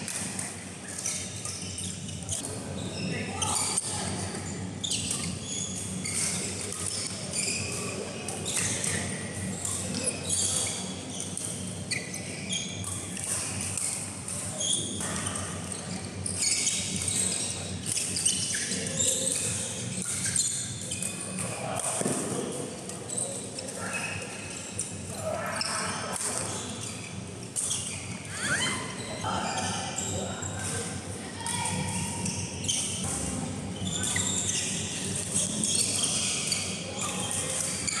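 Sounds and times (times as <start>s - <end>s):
badminton play on other courts: 0.0s - 38.0s
sports shoes squeaking: 0.2s - 38.0s.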